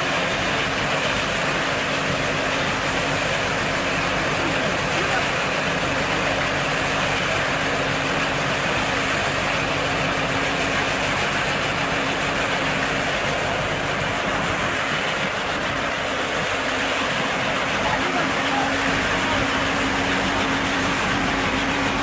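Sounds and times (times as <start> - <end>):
baler machine running: 0.0 - 22.0.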